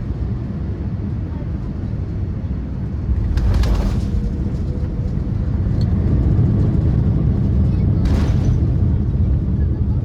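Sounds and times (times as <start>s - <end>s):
vehicle rumble from inside: 0.0s - 10.0s.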